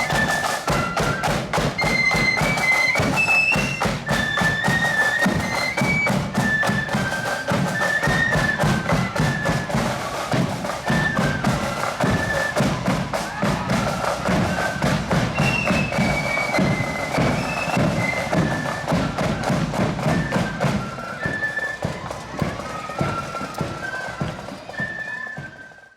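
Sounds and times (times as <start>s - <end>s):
snare and bass drumming: 0.0s - 24.8s
marching band melody: 0.0s - 25.9s.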